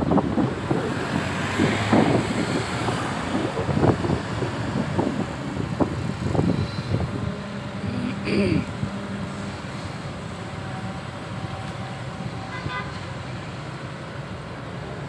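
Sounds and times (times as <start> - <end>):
wind buffeting microphone: 0.0 - 12.4
excavator diesel engine running: 0.0 - 12.5.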